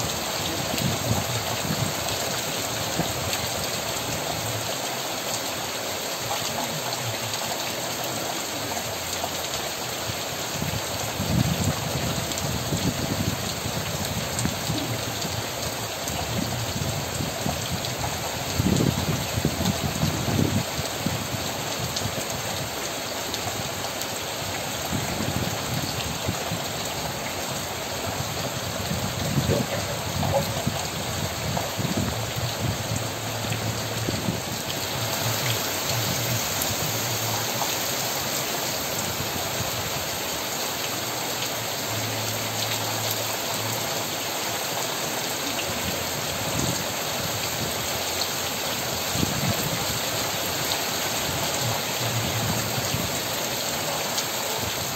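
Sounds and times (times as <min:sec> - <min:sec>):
steady rain hissing: 0:00.0 - 0:54.9.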